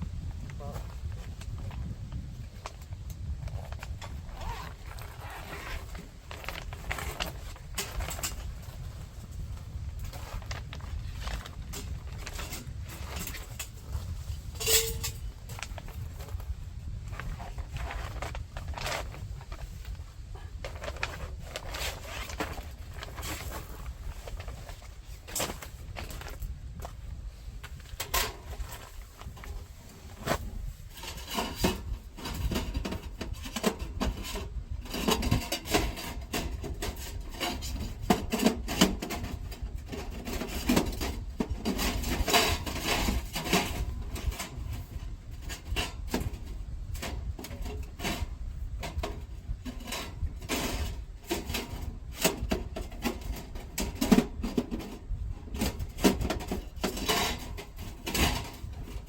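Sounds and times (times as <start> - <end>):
firewood and metal stove clatter: 0.0 - 59.0.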